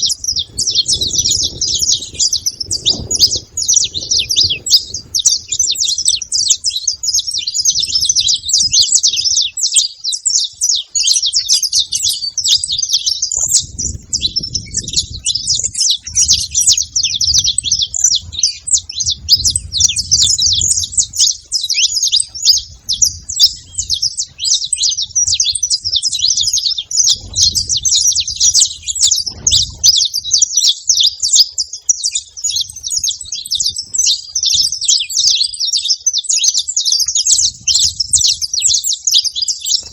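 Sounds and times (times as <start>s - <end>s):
finches chirping and twittering: 0.0s - 39.9s.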